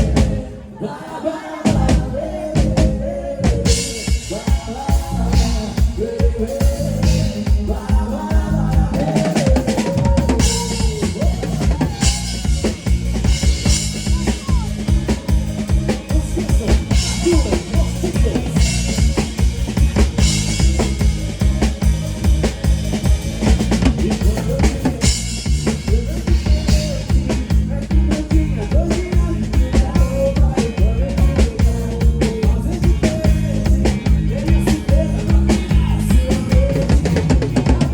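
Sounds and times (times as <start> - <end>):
bass drum and snare: 0.0 - 0.5, 1.7 - 37.9
live band playing: 0.0 - 0.8, 1.6 - 37.9.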